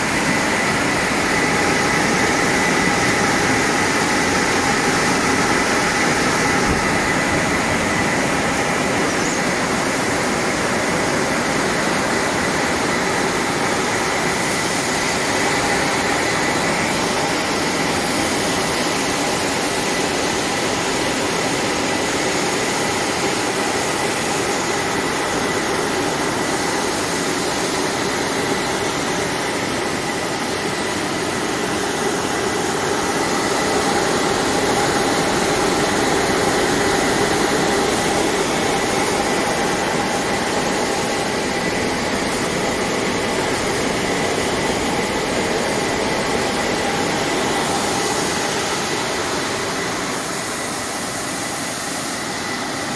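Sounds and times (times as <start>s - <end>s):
thin high whine: 0.0s - 52.9s
washing machine rushing noise: 0.0s - 52.9s.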